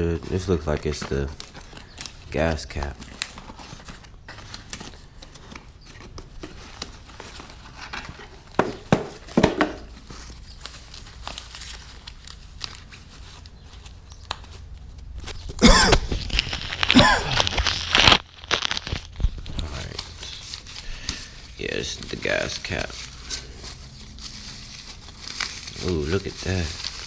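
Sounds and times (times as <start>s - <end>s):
packaging crinkling and tearing: 0.2s - 27.0s.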